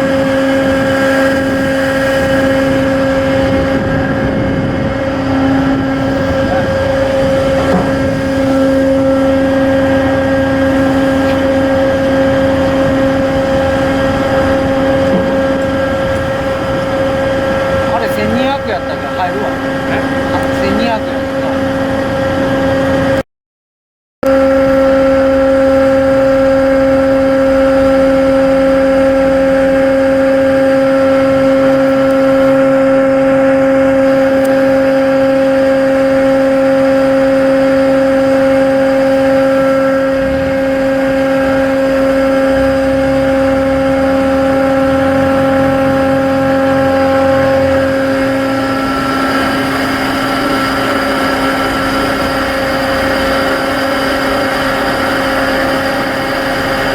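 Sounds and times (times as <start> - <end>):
ship diesel machinery droning: 0.0 - 23.2, 24.2 - 56.9.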